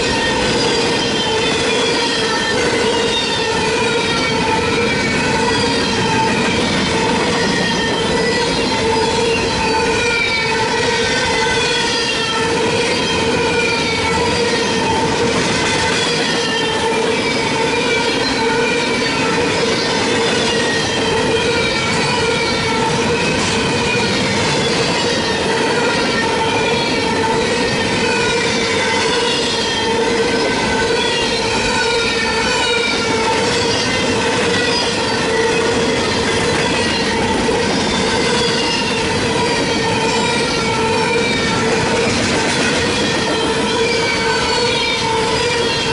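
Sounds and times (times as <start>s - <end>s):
rumble of wheels on rail: 0.0s - 45.9s
train wheels squealing: 0.0s - 45.9s.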